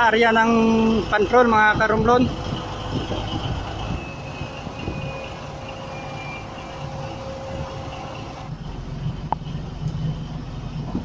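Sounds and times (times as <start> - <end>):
harbour background rumble: 0.0 - 11.0.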